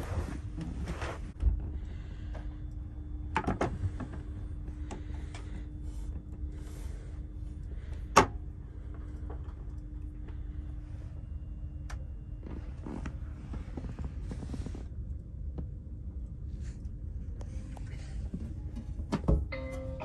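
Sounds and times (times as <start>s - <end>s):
low carriage hum: 0.0s - 20.0s.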